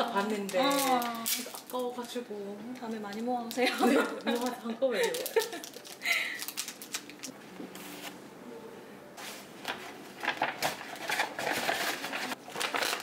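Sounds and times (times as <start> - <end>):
paper bag rustling and crinkling: 0.0 - 2.2, 3.1 - 8.2, 9.2 - 13.0.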